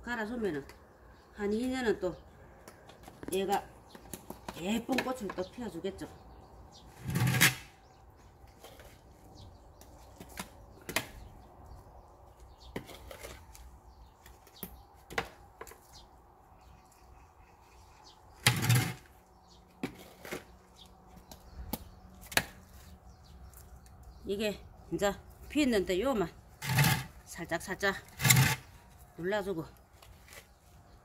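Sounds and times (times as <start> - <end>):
rustling and scraping of soil: 1.5 - 31.0.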